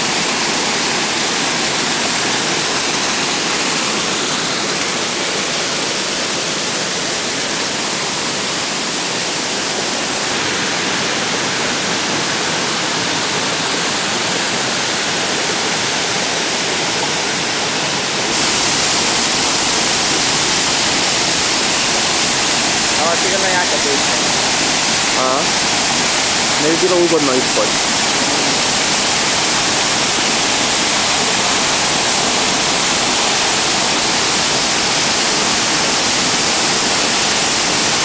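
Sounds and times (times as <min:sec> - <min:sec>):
waterfall roaring: 0:00.0 - 0:38.0.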